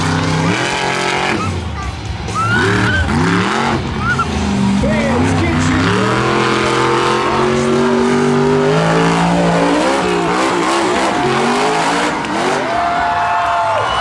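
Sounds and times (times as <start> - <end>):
truck engine revving hard: 0.0 - 14.0.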